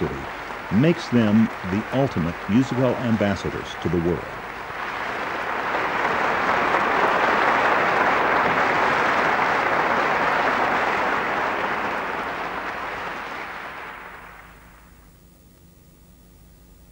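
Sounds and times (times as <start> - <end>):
audience applauding: 0.0 - 15.1.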